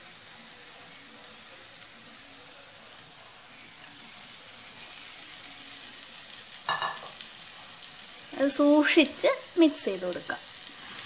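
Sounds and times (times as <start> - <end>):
masala sizzling in a pot: 0.0 - 11.0.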